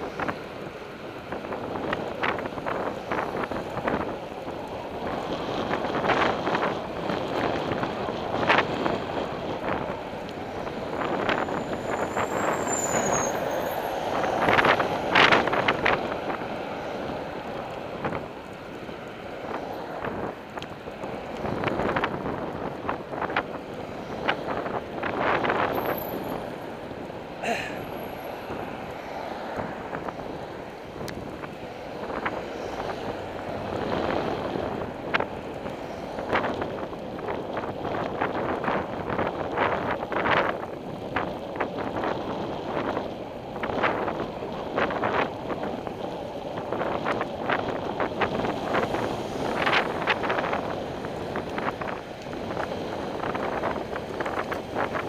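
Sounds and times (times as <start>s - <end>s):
traffic road noise: 0.0s - 55.0s
wind rushing over microphone: 0.0s - 55.0s.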